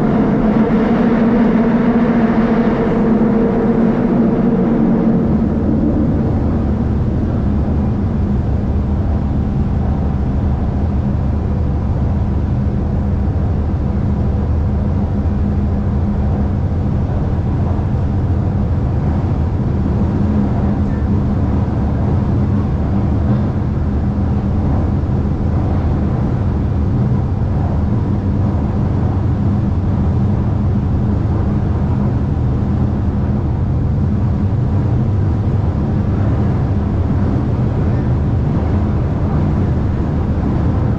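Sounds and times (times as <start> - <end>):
faint even hum: 0.0 - 40.9
train wheels rumbling on rail: 0.0 - 40.9.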